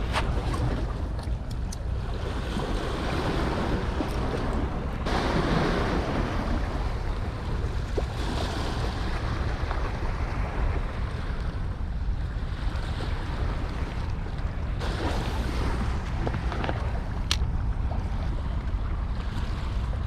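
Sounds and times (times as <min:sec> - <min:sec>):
gusty wind on microphone: 0:00.0 - 0:20.0
surf washing against shore: 0:00.0 - 0:20.0.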